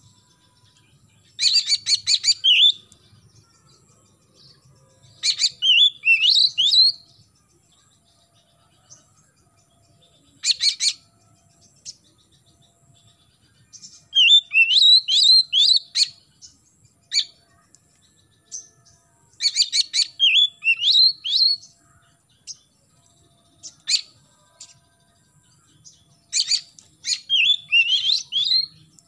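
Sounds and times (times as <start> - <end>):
bird singing: 0.0 - 29.0.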